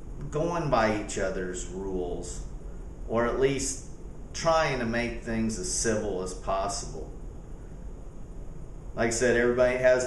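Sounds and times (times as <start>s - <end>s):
low rumble with faint hiss: 0.0s - 10.0s.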